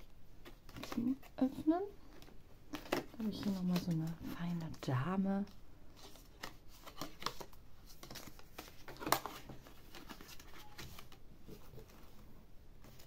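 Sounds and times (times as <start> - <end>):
paper and cardstock rustling: 0.4 - 13.0.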